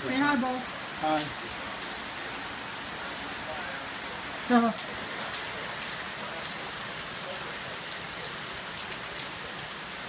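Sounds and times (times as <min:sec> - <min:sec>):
heavy rain downpour: 0:00.0 - 0:10.0.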